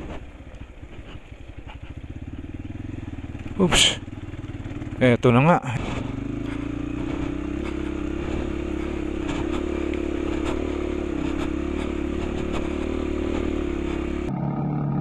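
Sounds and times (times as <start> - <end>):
clicks and clatter from road: 0.0 - 3.6, 5.7 - 14.3
motorcycle engine running: 0.0 - 15.0.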